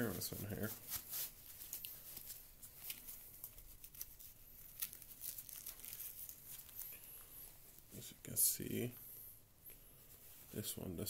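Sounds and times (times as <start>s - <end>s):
gloves rustling and scraping: 0.0s - 8.9s, 10.0s - 11.0s.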